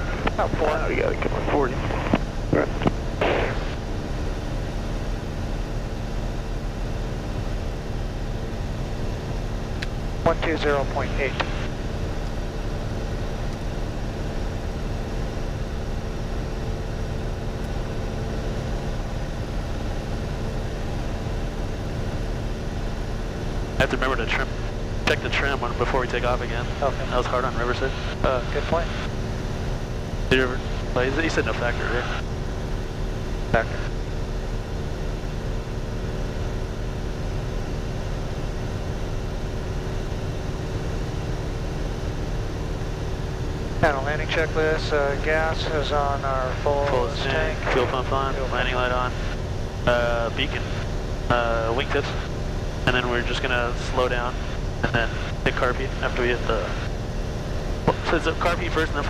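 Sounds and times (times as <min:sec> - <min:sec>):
aircraft engine and propeller drone: 0:00.0 - 0:59.0
constant rushing noise: 0:00.0 - 0:59.0.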